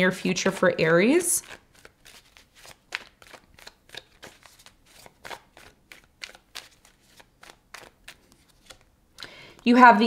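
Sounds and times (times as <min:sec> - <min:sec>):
cards being shuffled by hand: 0:00.1 - 0:08.9.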